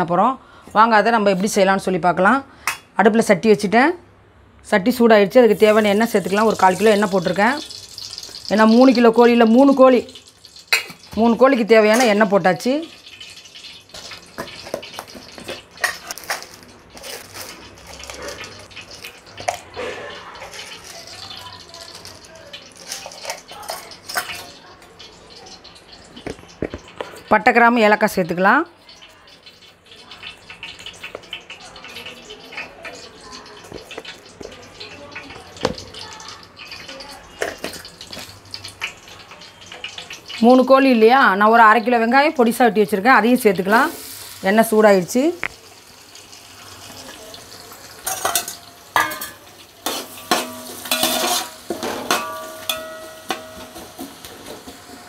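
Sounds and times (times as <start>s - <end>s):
hot oil crackling in a pot: 4.9s - 55.0s
spices clattering into oil: 5.5s - 55.0s.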